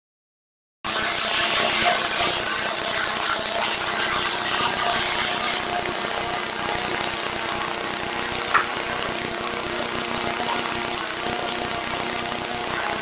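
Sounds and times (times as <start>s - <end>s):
drone propellers whirring: 0.9s - 13.0s.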